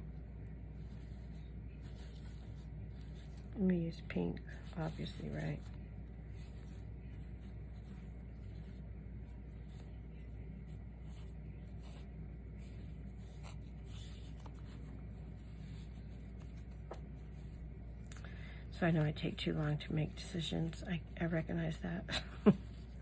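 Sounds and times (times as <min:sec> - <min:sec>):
ribbon rustling: 0:00.0 - 0:21.4, 0:22.3 - 0:23.0
steady low hum: 0:00.0 - 0:23.0.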